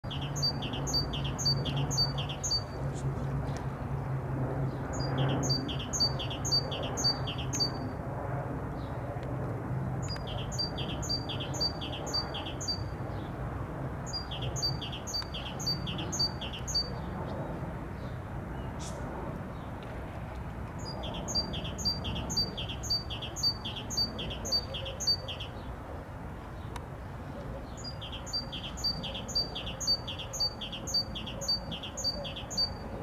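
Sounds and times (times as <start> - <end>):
songbird singing: 0.0 - 3.0, 4.7 - 7.9, 10.0 - 13.4, 14.0 - 19.7, 20.8 - 25.8, 26.4 - 33.0.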